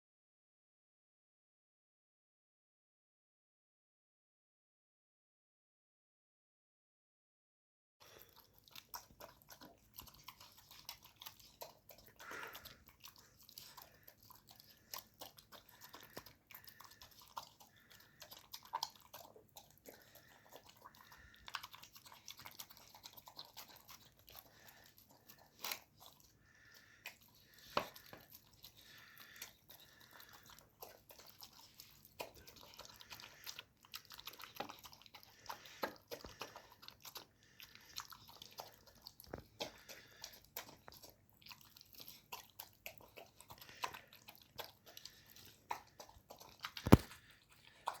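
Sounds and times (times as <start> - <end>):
dog chewing food: 8.0 - 48.0.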